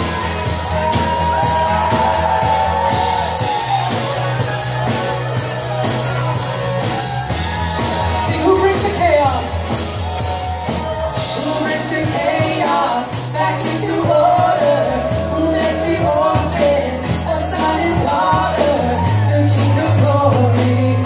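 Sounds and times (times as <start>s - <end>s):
tambourine shaking: 0.0s - 21.0s
voices singing: 0.0s - 21.0s
worship band playing: 0.0s - 21.0s.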